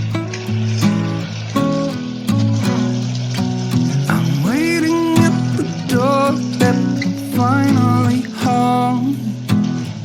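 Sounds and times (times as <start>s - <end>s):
plucked guitar: 0.0s - 10.0s.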